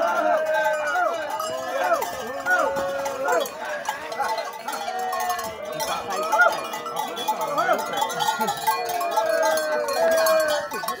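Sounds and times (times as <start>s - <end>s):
cattle bells clanking: 0.0s - 11.0s
men calling out: 0.0s - 11.0s.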